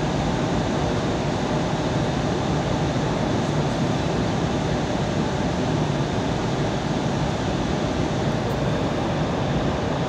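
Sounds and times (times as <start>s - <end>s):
airplane cabin engine and airflow rush: 0.0s - 10.0s.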